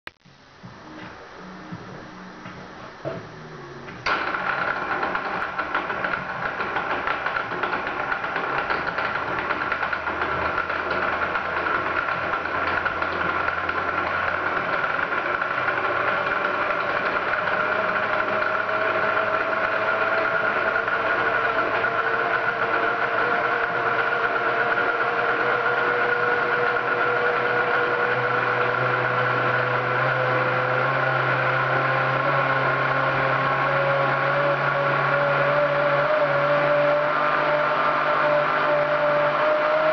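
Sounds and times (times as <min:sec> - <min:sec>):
stand mixer motor whine: 0:00.3 - 0:39.9.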